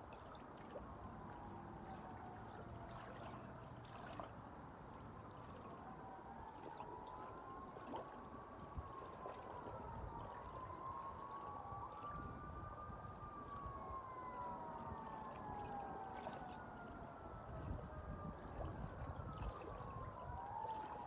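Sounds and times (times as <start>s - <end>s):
faint siren wailing: 0.0s - 21.0s
wind: 0.0s - 21.0s.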